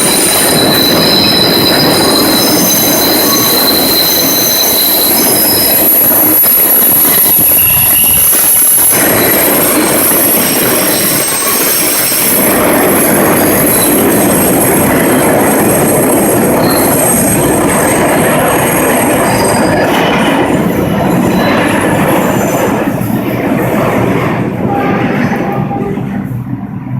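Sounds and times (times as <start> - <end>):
train wheels squealing: 0.0 - 23.5
train rumbling on rails: 0.0 - 26.9.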